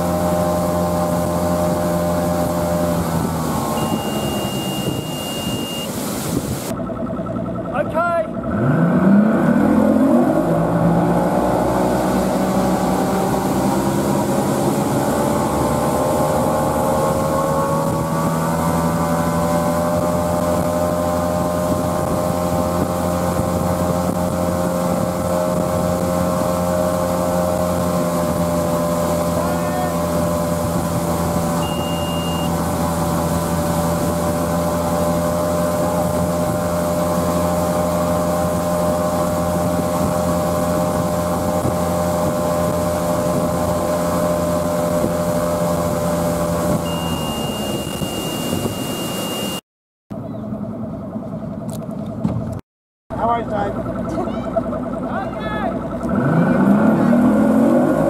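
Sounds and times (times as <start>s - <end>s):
boat wake rushing: 0.0s - 49.6s, 51.6s - 58.0s
outboard motor revving: 0.0s - 49.6s, 50.5s - 58.0s.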